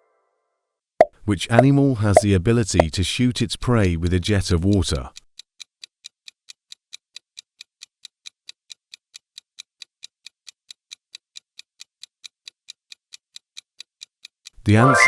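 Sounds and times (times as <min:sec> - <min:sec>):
clock ticking: 0:01.5 - 0:03.0, 0:03.6 - 0:14.8.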